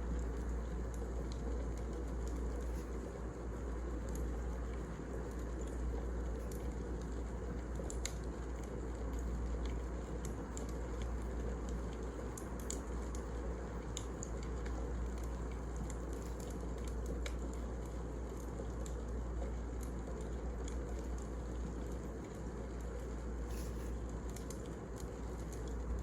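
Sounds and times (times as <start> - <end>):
wood fire rumbling: 0.0 - 26.0
logs crackling and popping: 0.2 - 26.0.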